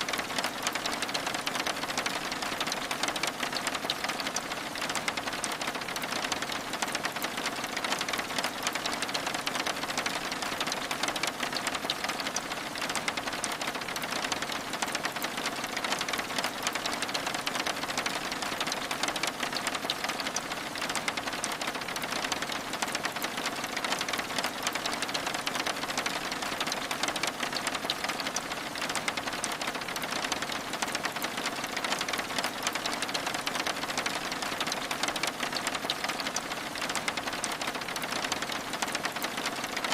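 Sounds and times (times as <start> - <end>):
rain pattering on glass: 0.0 - 39.9.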